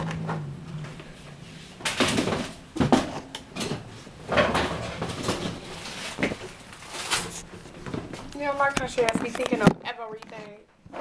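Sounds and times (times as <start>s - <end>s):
kitchen objects clattering: 1.8s - 11.0s.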